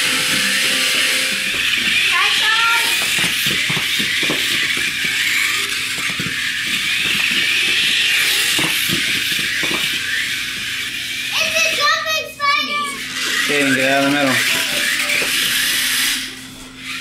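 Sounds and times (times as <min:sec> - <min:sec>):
toy car motor whining: 0:00.0 - 0:17.0.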